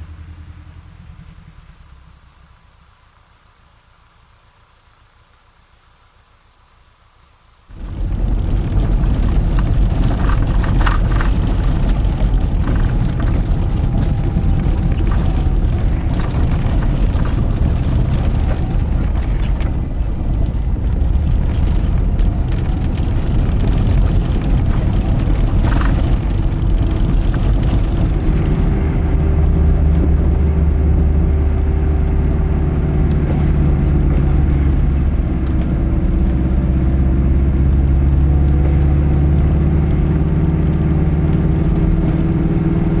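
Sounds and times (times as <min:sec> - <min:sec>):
car engine rumbling: 0:00.0 - 0:04.3, 0:07.7 - 0:43.0.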